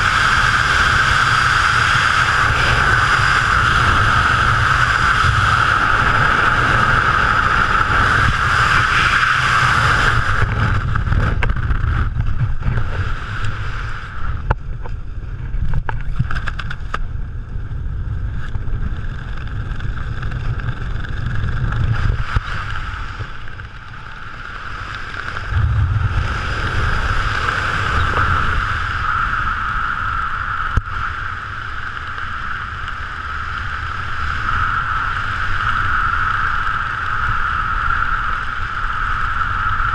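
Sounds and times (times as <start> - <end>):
wind rushing over camera: 0.0 - 39.9.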